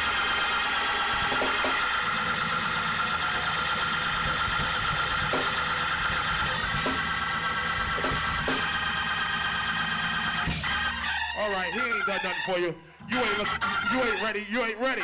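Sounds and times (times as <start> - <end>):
organ sustained chords: 0.0 - 15.0.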